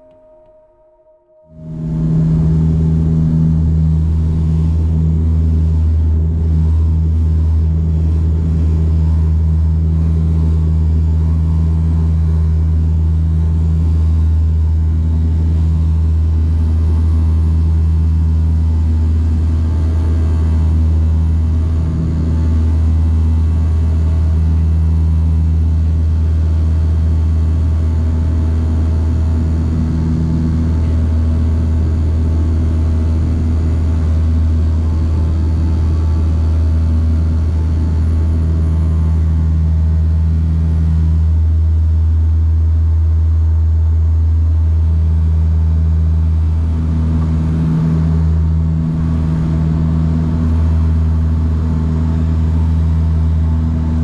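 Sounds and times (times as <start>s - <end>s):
airplane engines droning in cabin: 1.3s - 54.0s.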